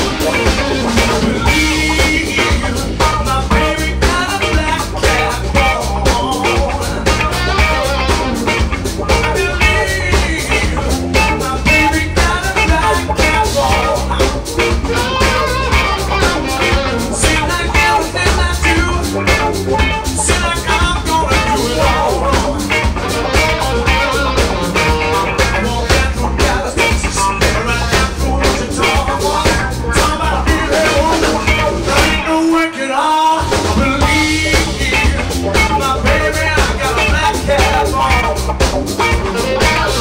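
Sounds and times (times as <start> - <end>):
drum kit: 0.0 - 32.6, 33.3 - 40.0
bass guitar: 0.0 - 32.7, 33.3 - 40.0
electric guitars: 0.0 - 40.0.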